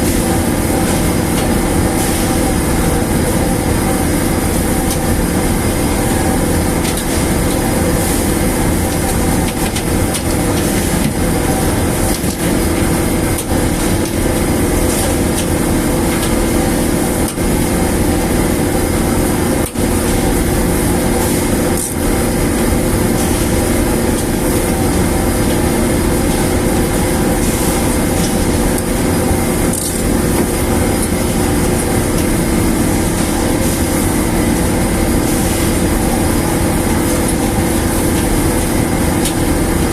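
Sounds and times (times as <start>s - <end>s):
large machine humming and rumbling: 0.0s - 39.9s.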